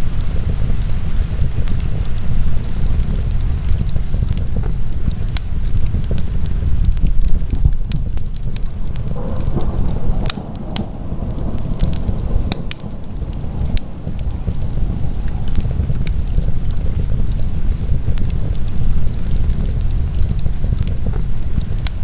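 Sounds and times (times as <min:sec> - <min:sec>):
fire crackling in a fireplace: 0:00.0 - 0:22.0.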